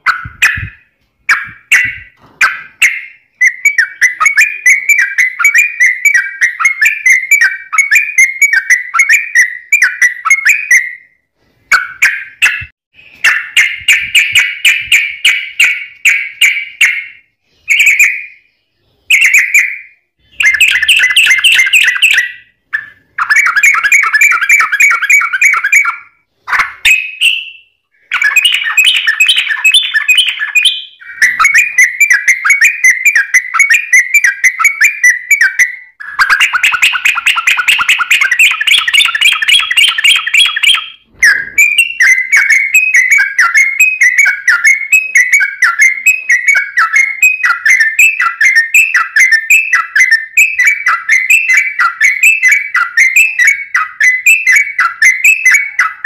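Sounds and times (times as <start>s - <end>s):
bird singing rapid chattering: 0.0s - 11.1s, 11.7s - 56.0s.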